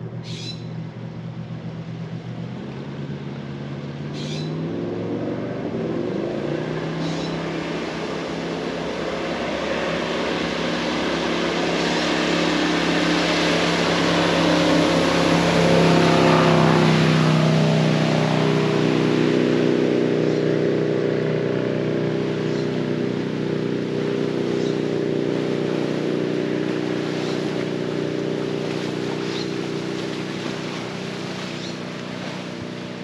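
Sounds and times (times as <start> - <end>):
engine approaching: 0.0 - 33.0.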